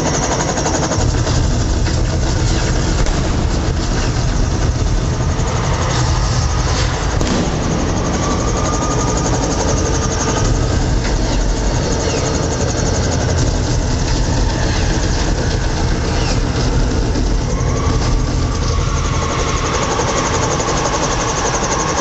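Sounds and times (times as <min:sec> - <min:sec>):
engines rumbling: 0:00.0 - 0:22.0
helicopter rotor chopping: 0:00.0 - 0:22.0.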